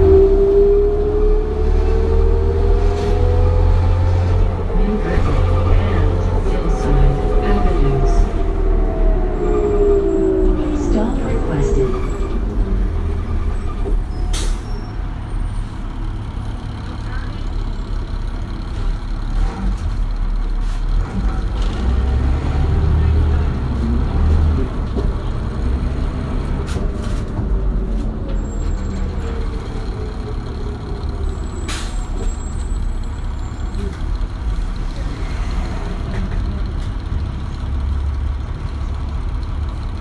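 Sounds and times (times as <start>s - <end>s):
bus engine running: 0.0s - 40.0s.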